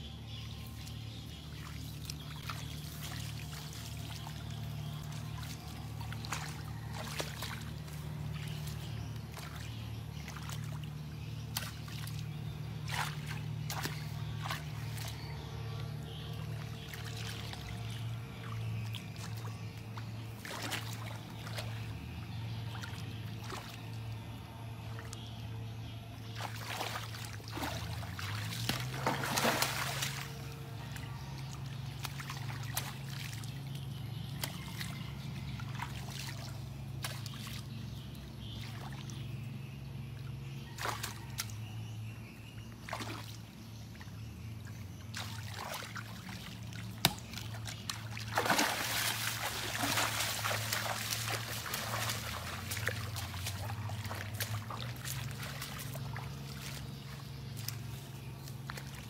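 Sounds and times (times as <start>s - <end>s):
low steady drone: 0.0s - 59.0s
stick splashing in muddy water: 0.5s - 15.3s, 16.1s - 21.9s, 22.5s - 24.0s, 26.2s - 37.7s, 40.8s - 41.7s, 42.8s - 43.4s, 45.1s - 59.0s.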